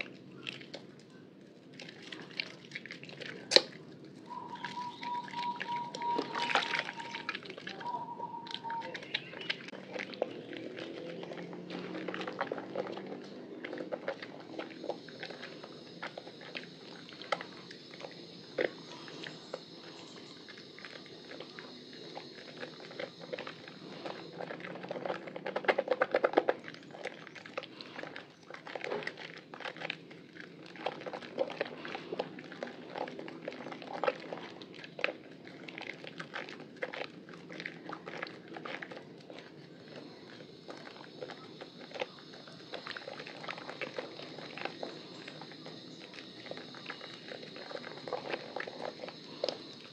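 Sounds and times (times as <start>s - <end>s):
wet squelching of soap: 0.0s - 49.9s.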